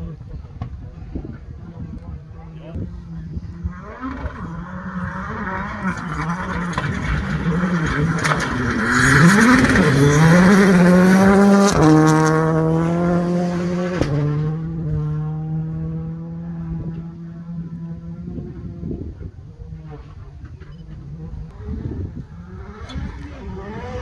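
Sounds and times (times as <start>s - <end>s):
rally car engine revving: 1.8s - 24.0s.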